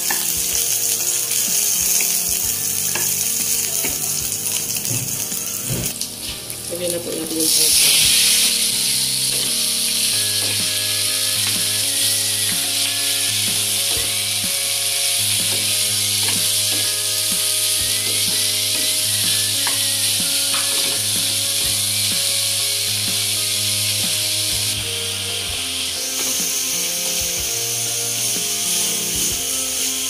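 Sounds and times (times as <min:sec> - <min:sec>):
meat sizzling in a wok: 0:00.0 - 0:30.0.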